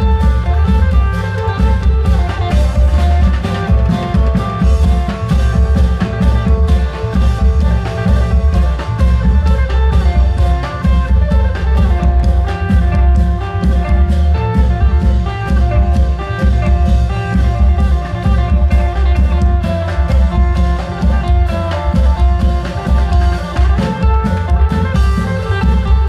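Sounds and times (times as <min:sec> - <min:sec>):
steady drum beat: 0:00.0 - 0:26.0.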